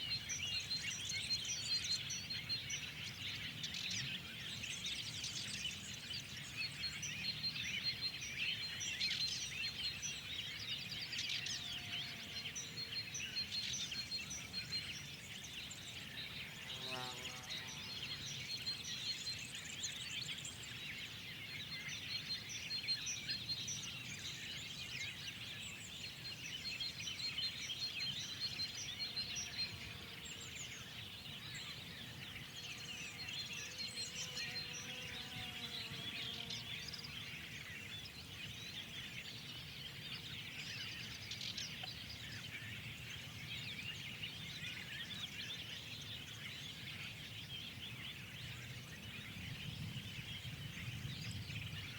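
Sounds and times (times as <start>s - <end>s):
songbirds chirping and singing: 0.0s - 51.9s.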